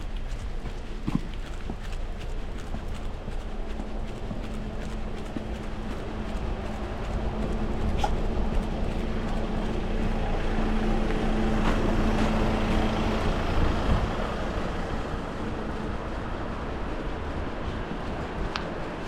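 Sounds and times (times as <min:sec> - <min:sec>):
steady traffic noise: 0:00.0 - 0:19.0
vehicle passing: 0:00.0 - 0:19.0.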